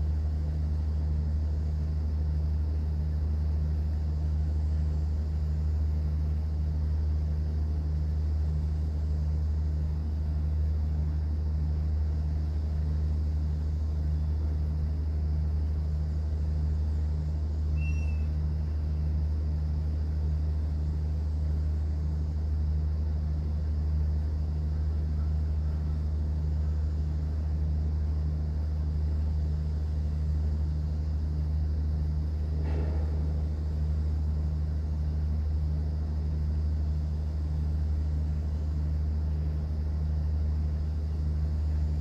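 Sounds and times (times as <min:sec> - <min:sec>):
boat engine drone: 0:00.0 - 0:42.0.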